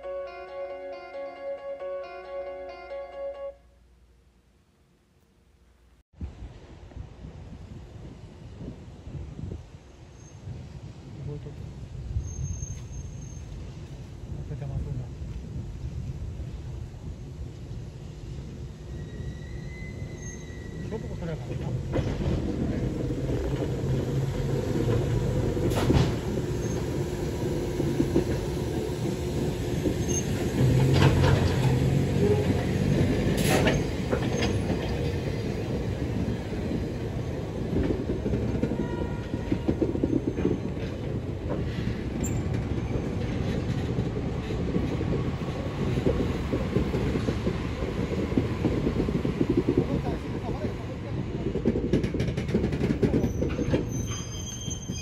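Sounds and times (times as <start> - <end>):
electric train rumbling: 6.2 - 55.0.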